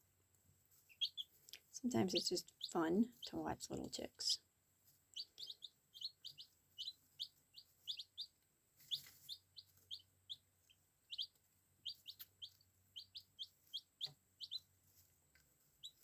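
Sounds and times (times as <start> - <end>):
baby chicks peeping: 0.6 - 16.0.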